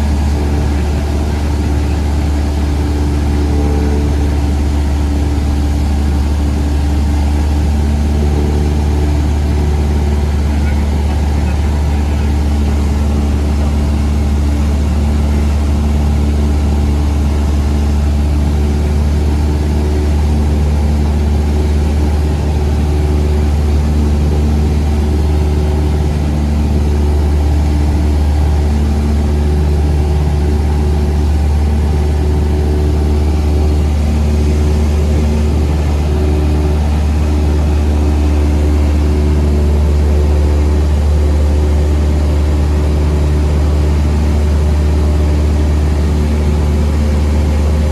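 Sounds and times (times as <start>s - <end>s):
airplane engine drone: 0.0s - 47.9s.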